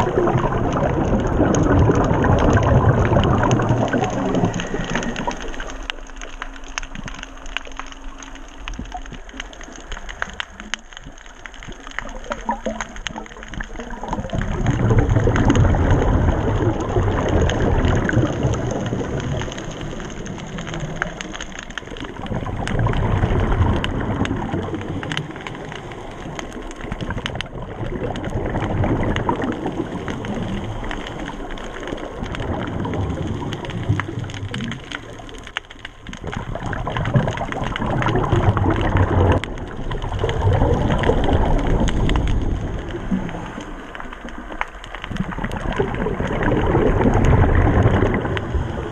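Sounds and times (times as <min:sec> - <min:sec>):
low underwater rumble: 0:00.0 - 0:48.9
underwater crackle of clicks: 0:00.0 - 0:48.9.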